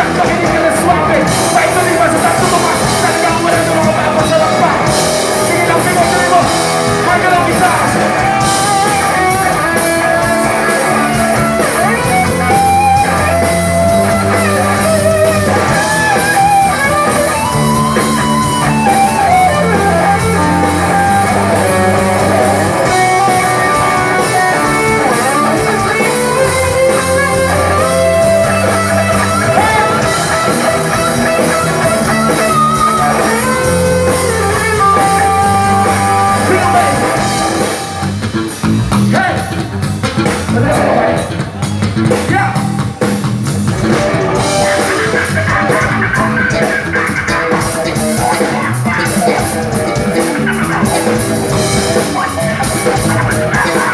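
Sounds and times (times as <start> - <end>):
bass line: 0.0 - 53.9
lead guitar with bending notes: 0.0 - 53.9.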